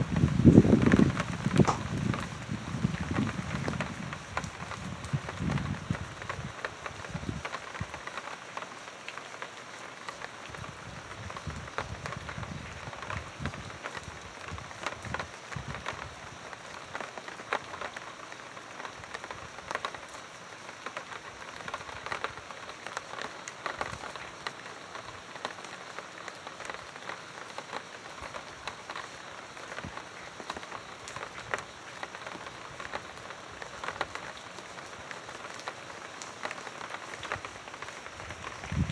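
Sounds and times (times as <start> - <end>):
rain drops ticking on hard surface: 0.0 - 38.9.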